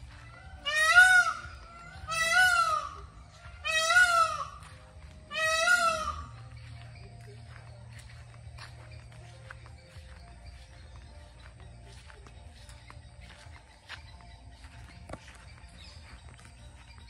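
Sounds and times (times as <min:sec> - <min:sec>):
peafowl calling: 0:00.0 - 0:17.0.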